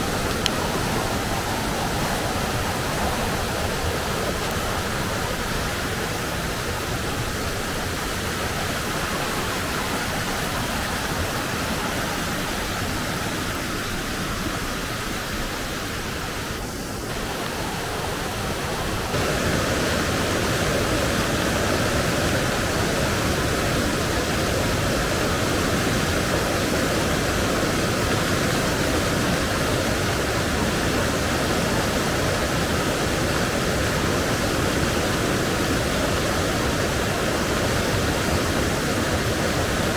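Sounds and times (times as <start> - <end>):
river rushing in flood: 0.0 - 39.9.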